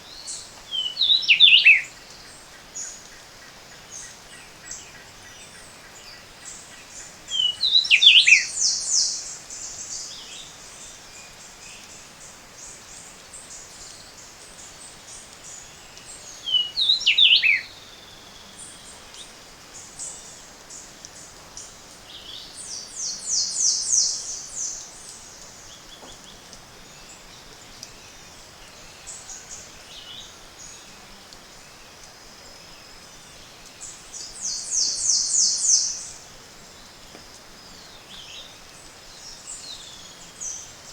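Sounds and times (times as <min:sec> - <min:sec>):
steady low hiss: 0:00.0 - 0:40.9.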